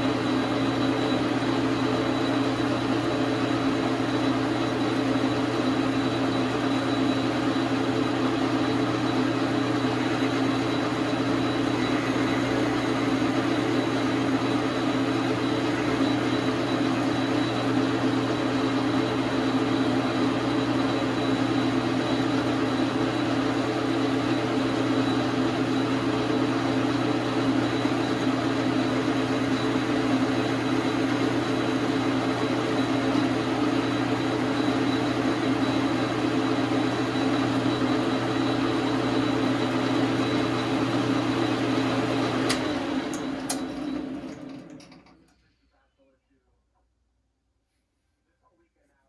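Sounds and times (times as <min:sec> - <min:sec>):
lathe motor hum: 0:00.0 - 0:45.1.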